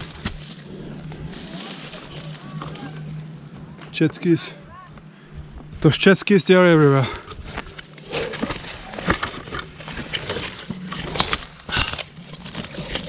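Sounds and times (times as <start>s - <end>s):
footsteps on dry leaves and stones: 0.0s - 6.0s, 6.6s - 13.0s
steady low hum: 0.0s - 13.0s.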